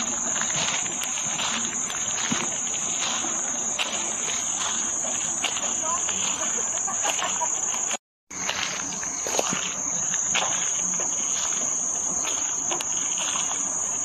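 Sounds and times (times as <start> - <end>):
footsteps on a path: 0.0 - 14.0
insects trilling: 0.0 - 14.0.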